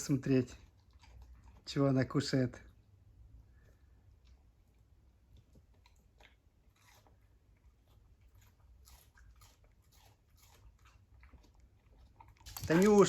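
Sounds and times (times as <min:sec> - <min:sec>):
pet chewing and crunching: 0:00.0 - 0:13.0.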